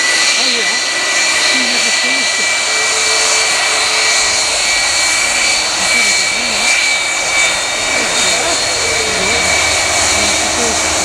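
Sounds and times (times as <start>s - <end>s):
high engine whine: 0.0s - 11.0s
jet airliner taxiing: 0.0s - 11.0s.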